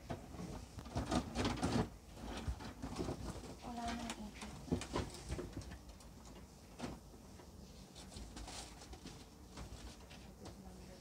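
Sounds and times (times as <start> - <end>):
clothes and plastic bags rustling: 0.0 - 11.0.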